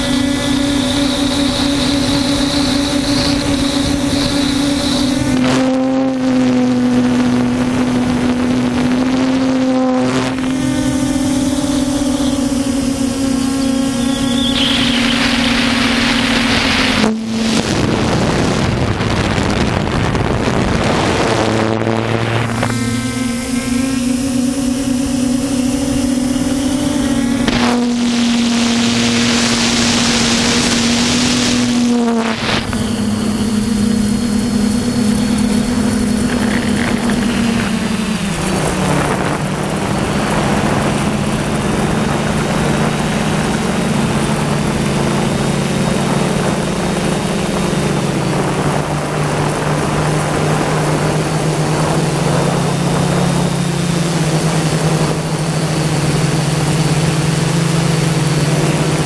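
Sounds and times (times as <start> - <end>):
wind hiss on microphone: 0.0 - 5.8, 10.1 - 59.0
drone propellers whirring: 0.0 - 59.0.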